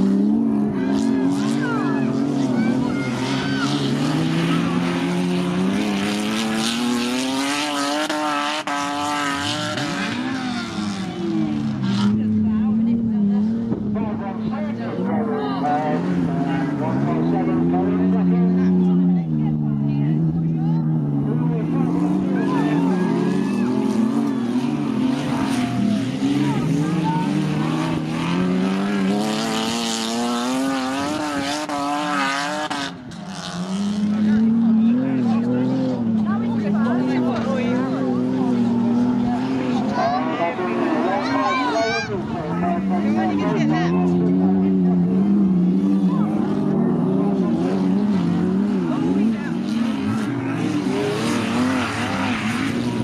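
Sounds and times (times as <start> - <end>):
racing car engines running: 0.0 - 53.0.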